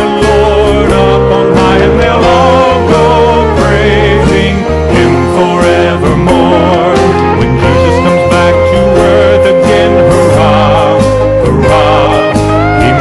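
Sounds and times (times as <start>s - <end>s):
instrumental backing: 0.0s - 13.0s
person singing with vibrato: 0.0s - 13.0s.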